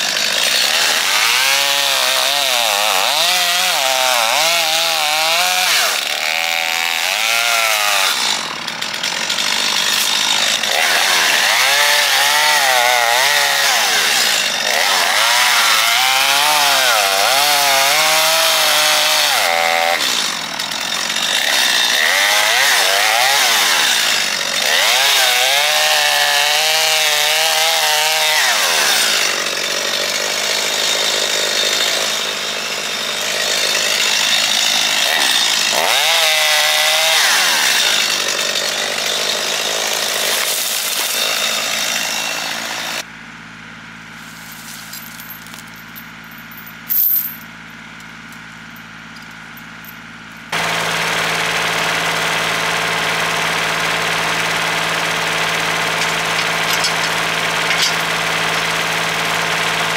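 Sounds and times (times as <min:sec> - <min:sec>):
tractor engine with rotary cutter: 0:00.0 - 0:59.9.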